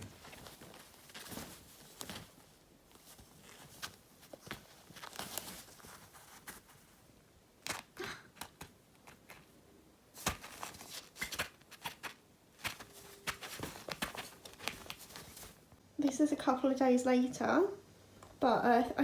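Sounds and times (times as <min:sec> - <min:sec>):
kitten rustling and scratching: 0:00.0 - 0:15.8.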